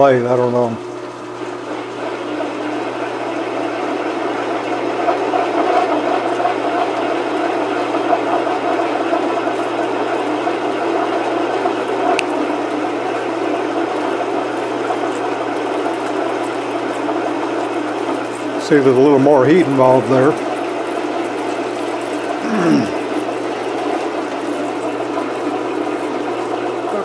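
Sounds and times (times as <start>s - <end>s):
metal lathe cutting whir: 1.6s - 27.0s.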